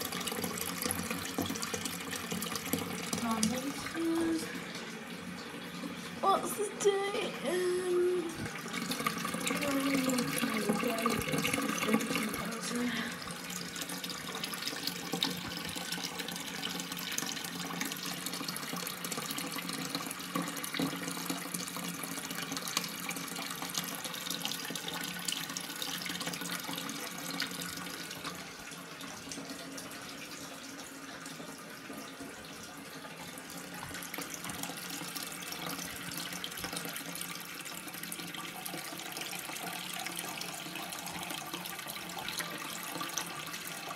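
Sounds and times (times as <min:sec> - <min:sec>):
toilet cistern refilling: 0:00.0 - 0:43.9.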